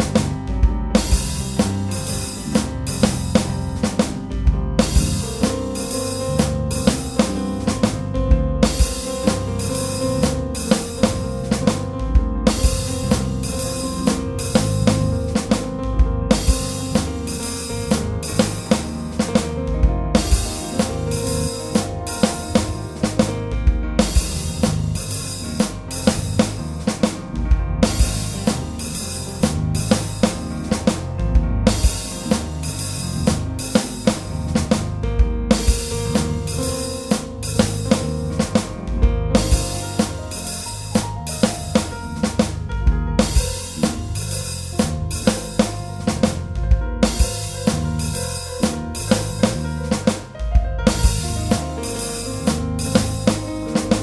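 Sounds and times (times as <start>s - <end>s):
bass line: 0.0s - 54.0s
drum kit beat: 0.0s - 54.0s.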